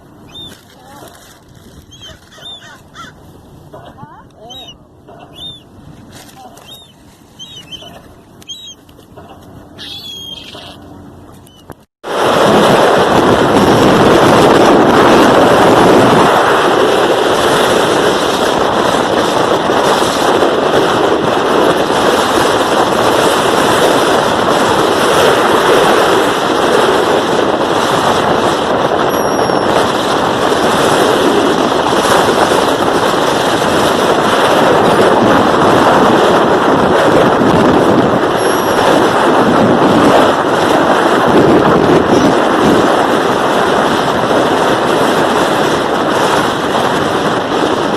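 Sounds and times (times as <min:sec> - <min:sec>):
beach wind: 0:00.0 - 0:47.9.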